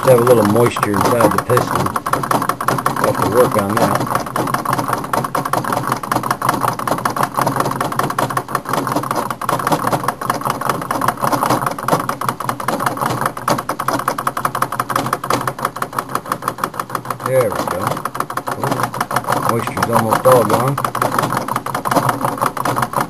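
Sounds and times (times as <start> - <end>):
stirling engine clattering: 0.0 - 23.0.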